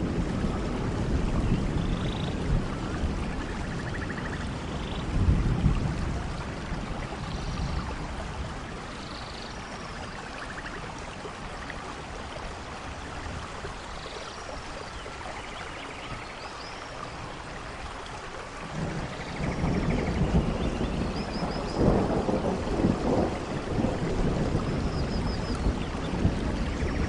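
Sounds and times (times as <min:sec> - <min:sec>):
low rumble of thunder: 0:00.0 - 0:13.8, 0:18.5 - 0:27.0
steady rain falling: 0:00.0 - 0:27.0.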